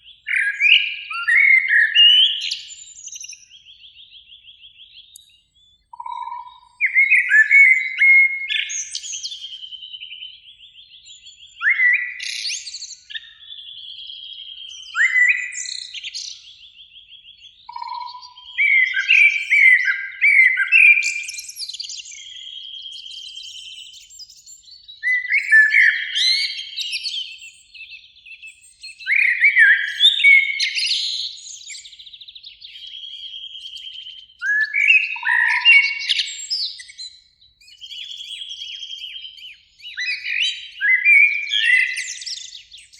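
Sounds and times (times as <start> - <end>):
blackbirds singing fluting phrases: 0.0 - 42.9.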